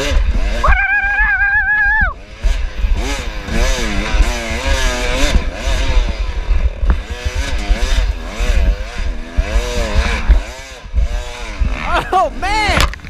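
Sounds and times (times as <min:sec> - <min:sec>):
dirt bike engine revving: 0:02.2 - 0:13.0.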